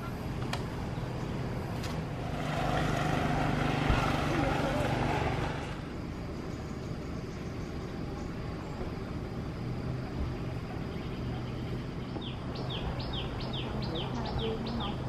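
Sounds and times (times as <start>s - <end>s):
low motor hum: 0.0s - 14.1s
bird chirping: 0.8s - 9.1s, 10.2s - 15.0s.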